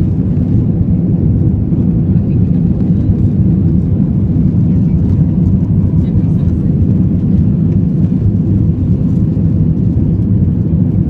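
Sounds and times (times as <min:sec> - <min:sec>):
aircraft engines rumbling: 0:00.0 - 0:11.0.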